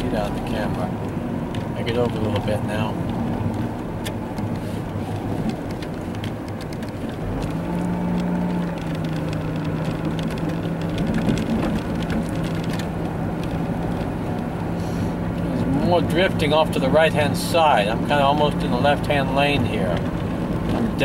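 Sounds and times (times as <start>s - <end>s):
car engine and tyre drone: 0.0s - 21.0s
snow ticking on car: 0.0s - 21.0s.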